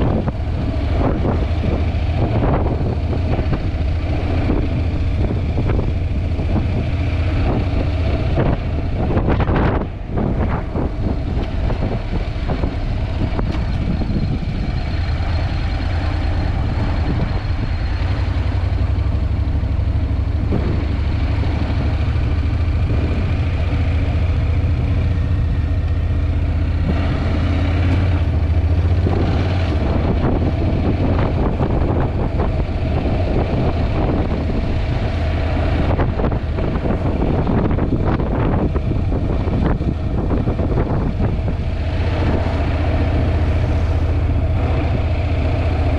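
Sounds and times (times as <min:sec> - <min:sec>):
motorcycle engine running: 0:00.0 - 0:45.9
wind rumbling over microphone: 0:00.0 - 0:45.9.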